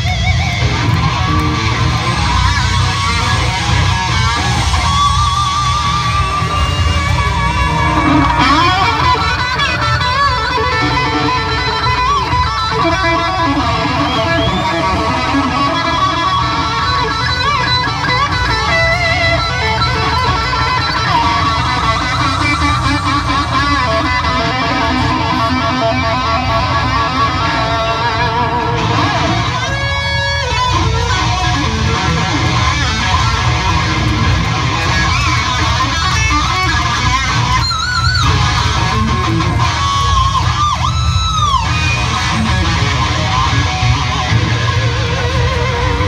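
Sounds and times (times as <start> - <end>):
electric guitar bending notes: 0.0 - 46.0
live band playing: 0.0 - 46.0.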